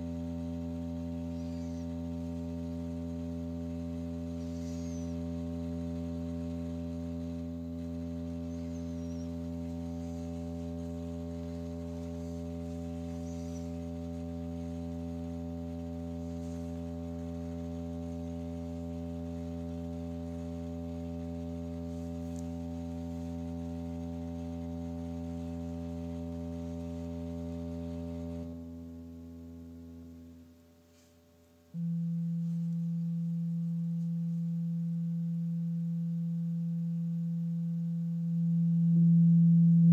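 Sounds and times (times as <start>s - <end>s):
low electronic hum: 0.0s - 39.9s.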